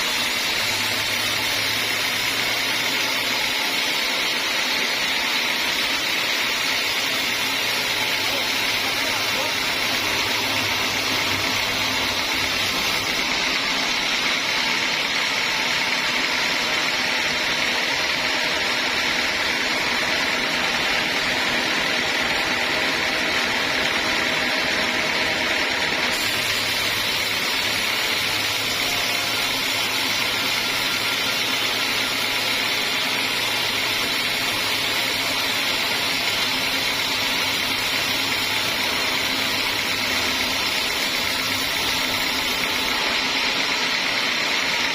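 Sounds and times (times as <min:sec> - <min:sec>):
band sawmill running: 0:00.0 - 0:44.9.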